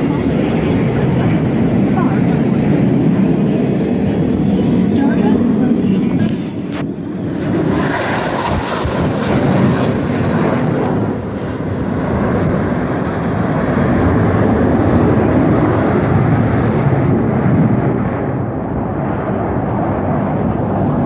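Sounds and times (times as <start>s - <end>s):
jet aircraft roar: 0.0s - 21.0s.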